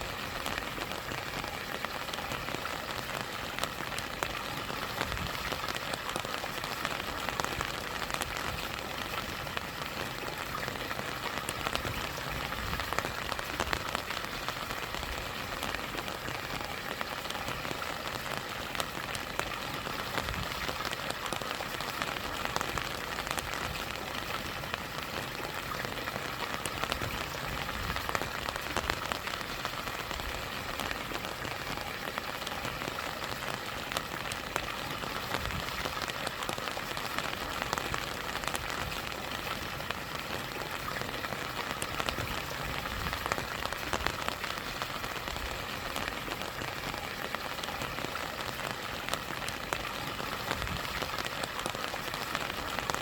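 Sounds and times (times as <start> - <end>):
rain drops ticking: 0.0 - 53.0.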